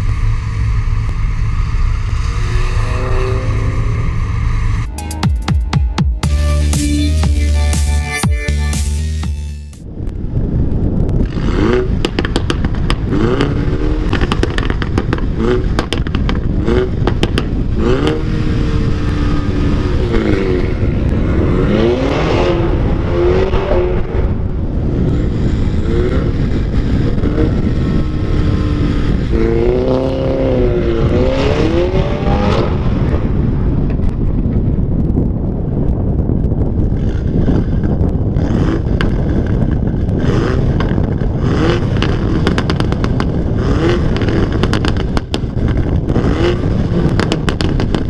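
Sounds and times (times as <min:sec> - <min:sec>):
wind rumble on microphone: 0:00.0 - 0:04.9, 0:09.8 - 0:48.0
car engine revving: 0:00.0 - 0:05.2, 0:11.1 - 0:33.8, 0:36.9 - 0:48.0.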